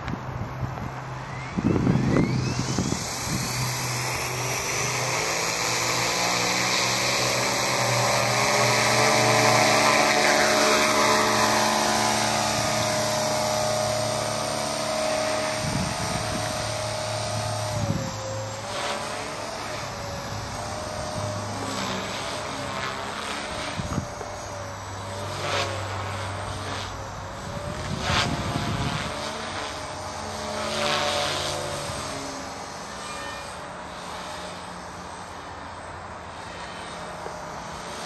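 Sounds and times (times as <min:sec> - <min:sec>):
model helicopter whine: 0:00.0 - 0:38.0.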